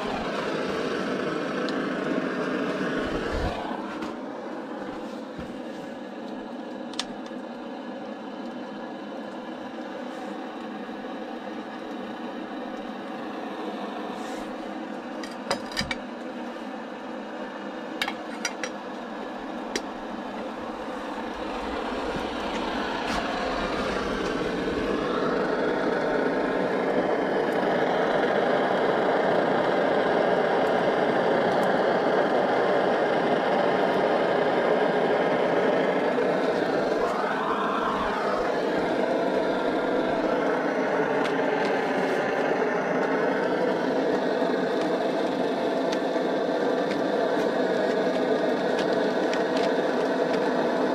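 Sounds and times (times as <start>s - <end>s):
camping stove burner hissing: 0.0s - 50.9s.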